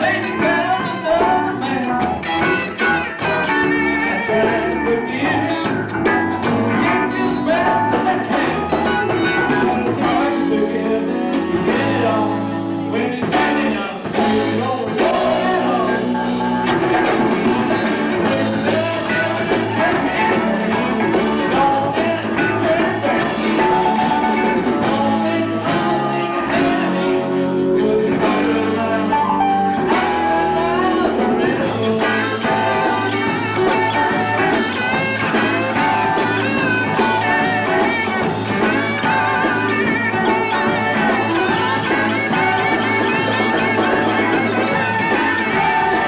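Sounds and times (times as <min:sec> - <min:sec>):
bass line: 0:00.0 - 0:46.0
electric guitar: 0:00.0 - 0:46.0
rock band playing blues-rock: 0:00.0 - 0:46.0.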